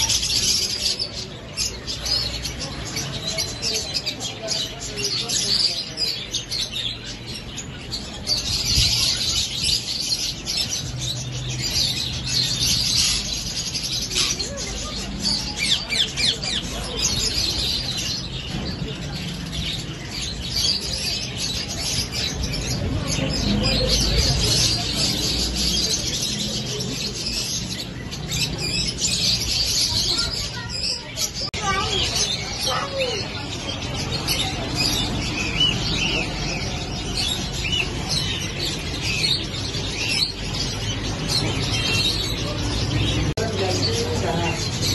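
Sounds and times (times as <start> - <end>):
caged birds chirping and squawking: 0.0 - 44.9.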